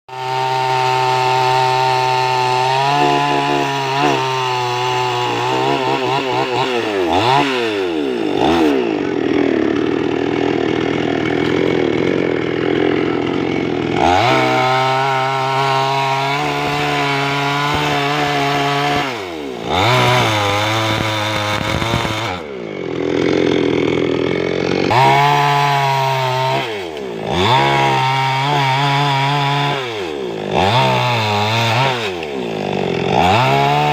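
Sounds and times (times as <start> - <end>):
chainsaw cutting tree: 0.1 - 33.9.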